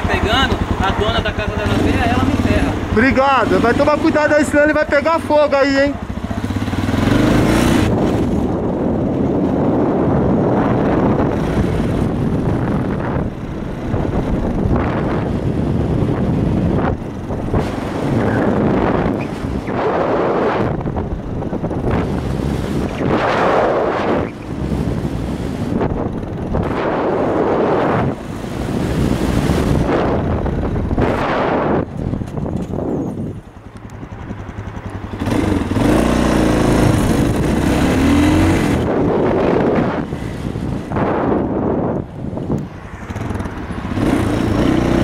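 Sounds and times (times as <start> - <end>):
vehicle engine and road noise: 0.0 - 45.0
wind buffeting microphone: 0.0 - 45.0.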